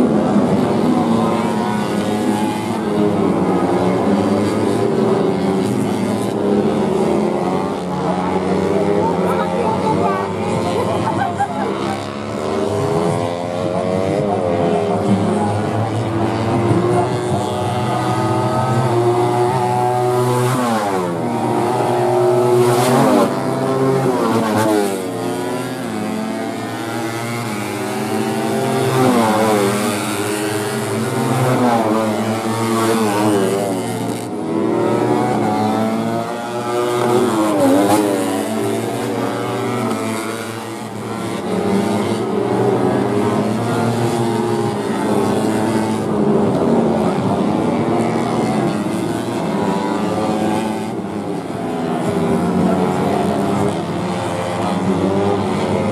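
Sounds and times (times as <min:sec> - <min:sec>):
racing motorcycle engines: 0:00.0 - 0:55.9.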